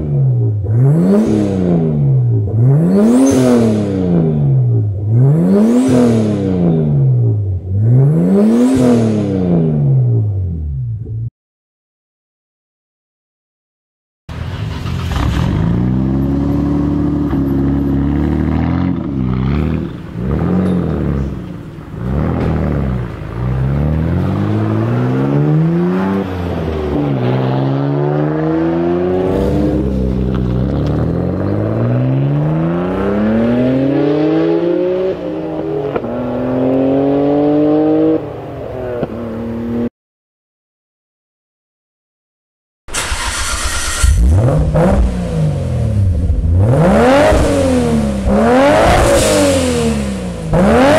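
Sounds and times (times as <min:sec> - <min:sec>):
car engine revving: 0:00.0 - 0:11.1, 0:14.3 - 0:39.9, 0:42.9 - 0:50.9.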